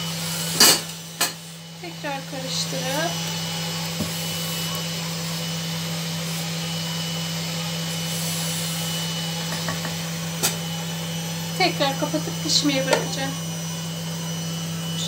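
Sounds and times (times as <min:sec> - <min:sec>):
meat and vegetables sizzling in oil: 0:00.0 - 0:15.0.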